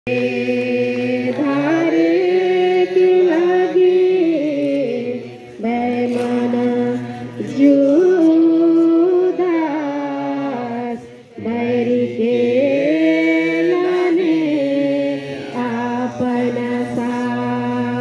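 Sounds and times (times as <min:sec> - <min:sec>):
person singing a hymn: 0:00.1 - 0:18.0.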